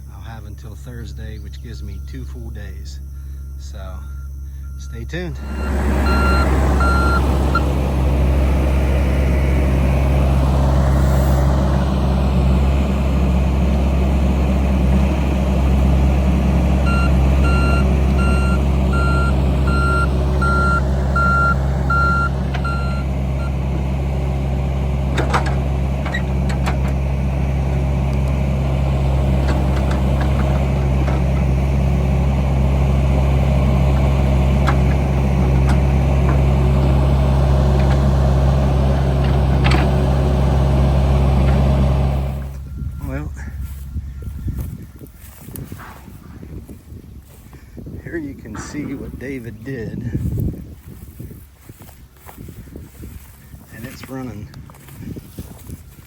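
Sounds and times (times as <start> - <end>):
back-up alarm beeping: 0.0 - 46.0
diesel machine engine running: 0.0 - 56.0.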